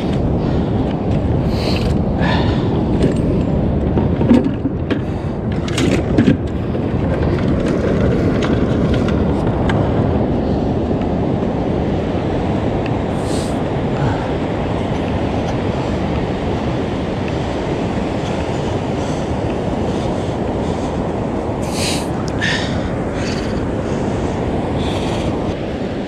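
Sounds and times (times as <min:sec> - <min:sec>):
ocean surf: 0:00.0 - 0:26.0
wind on microphone: 0:00.0 - 0:26.0.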